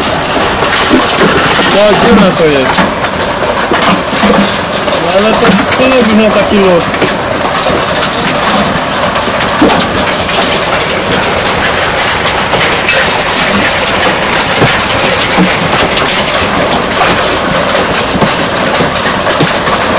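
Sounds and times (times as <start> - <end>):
hailstones pelting: 0.0 - 19.9.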